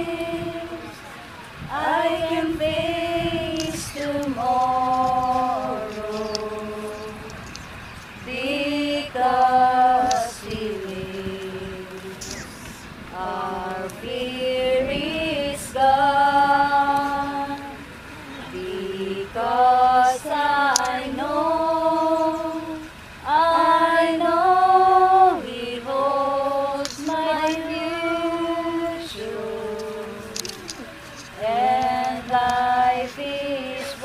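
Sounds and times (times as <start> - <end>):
group singing a slow hymn: 0.0 - 34.0.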